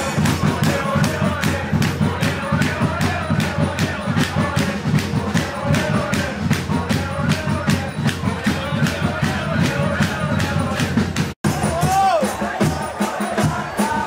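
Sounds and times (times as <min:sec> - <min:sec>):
football supporters chanting: 0:00.0 - 0:14.0
steady drum beat: 0:00.0 - 0:14.0.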